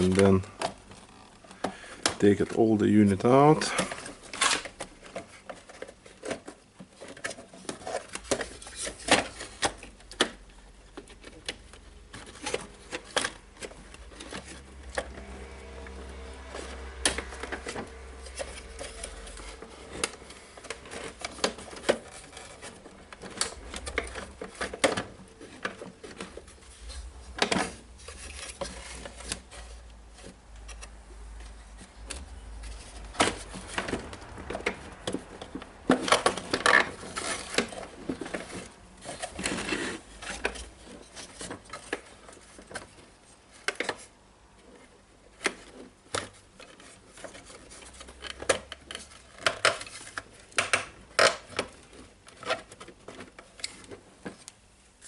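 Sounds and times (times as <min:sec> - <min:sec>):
plastic parts clicking and rattling: 0:00.0 - 0:54.7.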